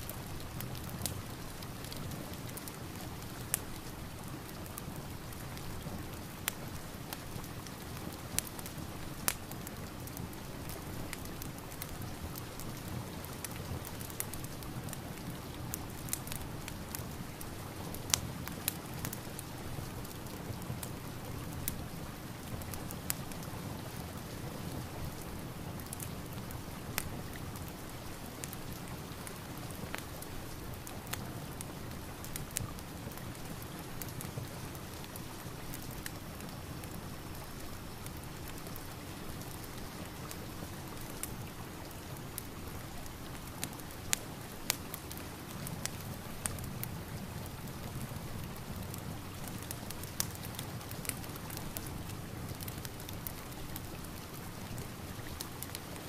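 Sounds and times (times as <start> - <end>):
steady rain: 0.0 - 56.0
wood fire crackling and popping: 0.0 - 56.0.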